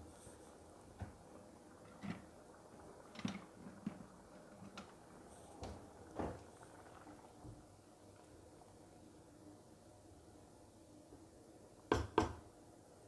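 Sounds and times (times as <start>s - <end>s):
pot bubbling: 0.0s - 10.6s.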